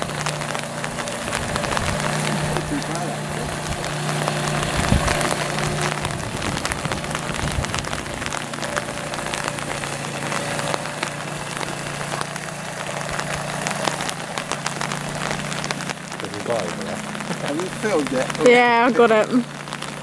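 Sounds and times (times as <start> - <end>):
crackling hiss: 0.0 - 20.0
small outboard motor humming: 0.0 - 20.0.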